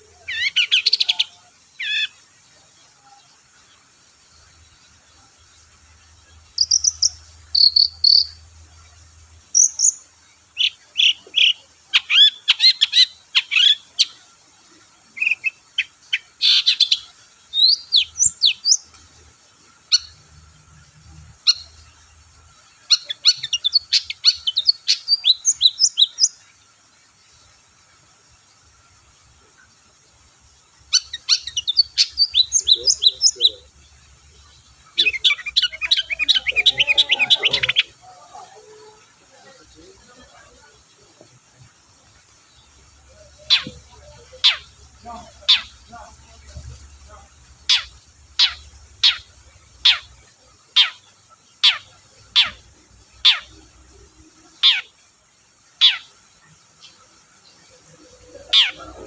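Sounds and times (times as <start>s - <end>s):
shrike chattering song: 0.0s - 59.0s.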